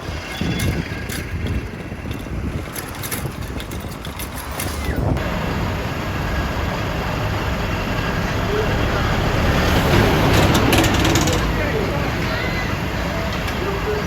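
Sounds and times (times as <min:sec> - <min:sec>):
wind buffeting microphone: 0:00.0 - 0:13.5
street traffic: 0:00.0 - 0:14.0
vehicle engines running: 0:00.0 - 0:14.0.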